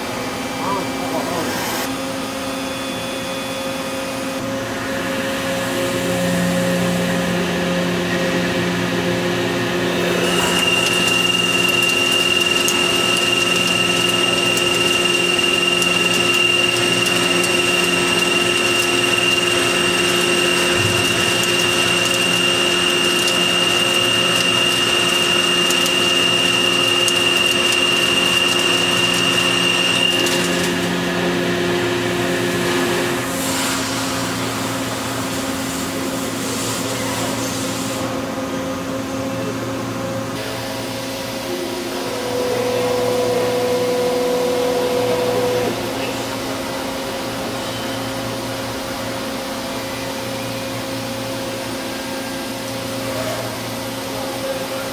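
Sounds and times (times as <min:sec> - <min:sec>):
machine noise: 0:00.0 - 0:38.1, 0:38.9 - 0:53.4
high machine whine: 0:00.0 - 0:54.9.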